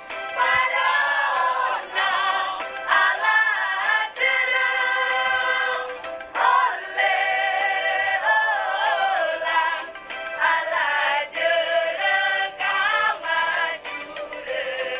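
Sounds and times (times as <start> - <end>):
choir singing: 0.4 - 14.9.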